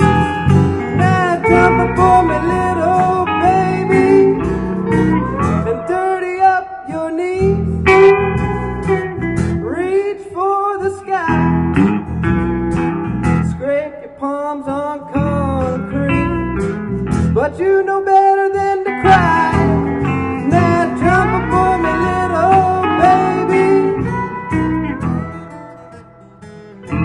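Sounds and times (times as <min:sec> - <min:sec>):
person singing: 0:00.0 - 0:11.7, 0:13.5 - 0:25.7
acoustic guitar with gliding notes: 0:00.0 - 0:27.0.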